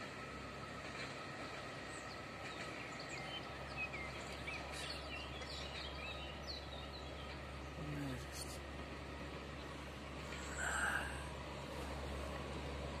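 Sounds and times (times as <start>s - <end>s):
low steady hum: 0.0s - 13.0s
birds chirping: 0.9s - 12.2s.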